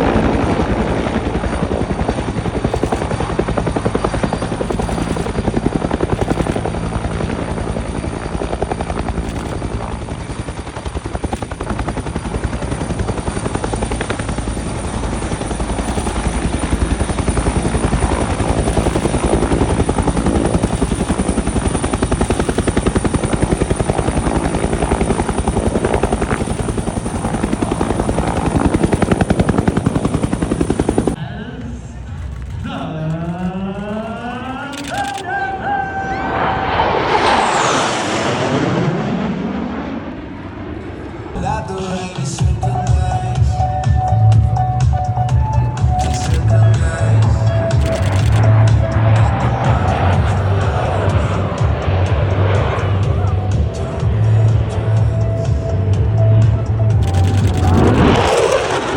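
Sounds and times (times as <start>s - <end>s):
aircraft engine noise: 0.0s - 58.9s.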